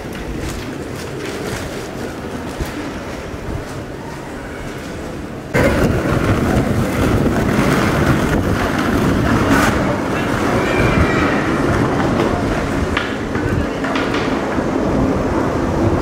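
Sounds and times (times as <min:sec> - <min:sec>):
steady rolling rumble: 0:00.0 - 0:16.0.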